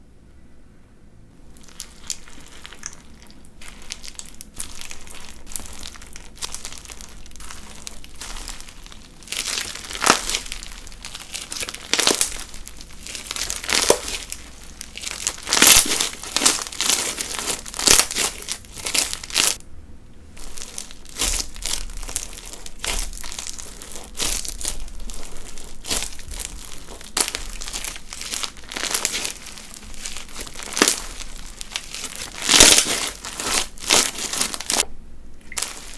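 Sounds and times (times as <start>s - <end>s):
crunchy slime squishes: 1.4s - 19.6s, 20.2s - 35.9s
bead slime crackling: 1.5s - 19.6s, 20.4s - 34.8s, 35.4s - 35.9s.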